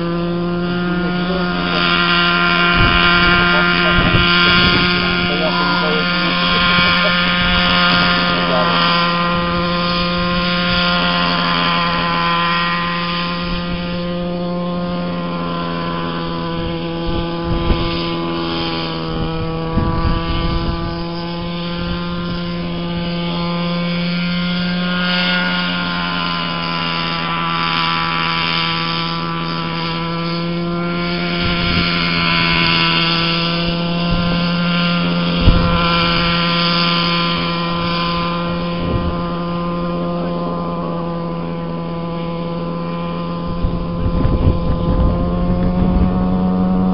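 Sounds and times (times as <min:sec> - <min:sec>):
model helicopter whine: 0:00.0 - 0:46.9
wind buffeting microphone: 0:00.0 - 0:46.9.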